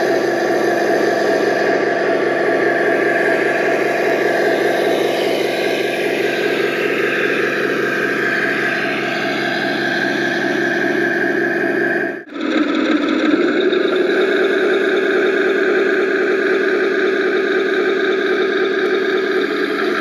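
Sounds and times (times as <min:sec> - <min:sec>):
high motor whine: 0:00.0 - 0:20.0
toy tank motor drone: 0:00.0 - 0:20.0.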